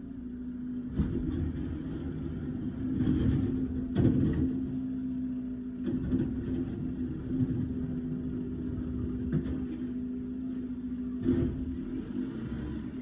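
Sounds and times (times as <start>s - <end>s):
garbage truck engine humming: 0.0s - 13.0s.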